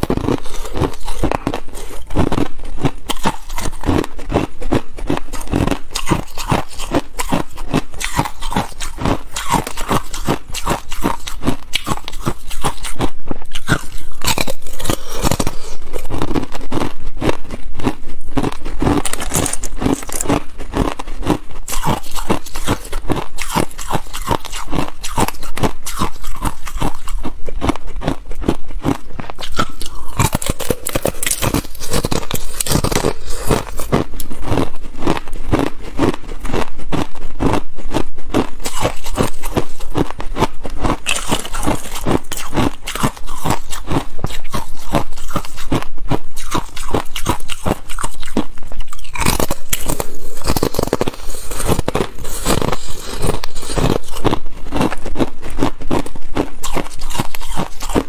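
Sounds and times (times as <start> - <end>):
person chewing ice crunching: 0.0 - 58.0.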